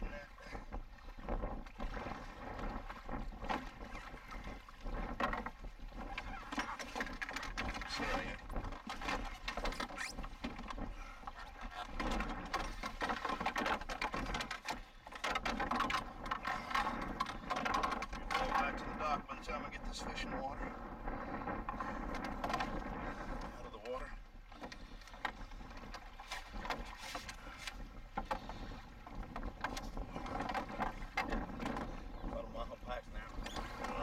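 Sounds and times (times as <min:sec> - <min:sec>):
water splashing against canoe: 0:00.0 - 0:34.0.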